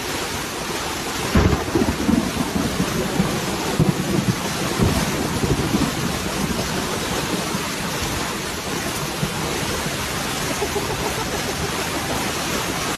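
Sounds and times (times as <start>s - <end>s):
heavy rain: 0.0s - 12.9s.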